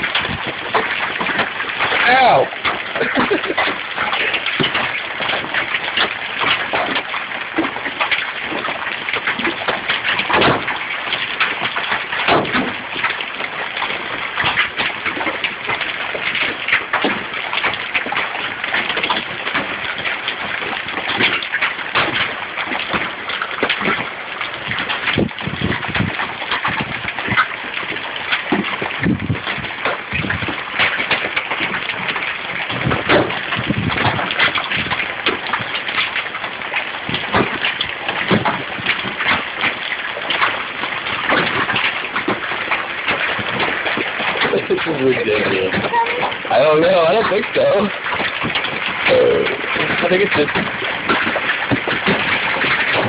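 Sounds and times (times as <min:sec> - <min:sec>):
large hailstones pelting down: 0:00.0 - 0:53.0.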